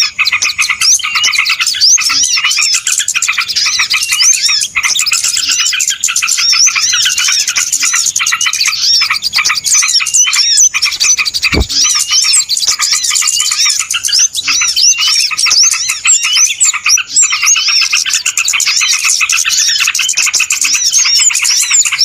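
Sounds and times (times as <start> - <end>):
flock of small birds chirping: 0.0 - 22.0.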